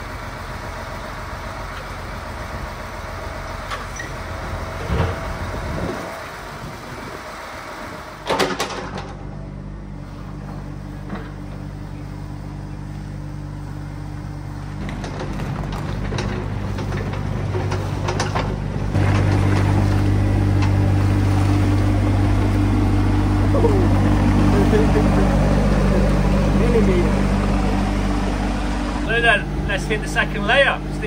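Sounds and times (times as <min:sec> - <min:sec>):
heavy machinery engine running: 0:00.0 - 0:31.0.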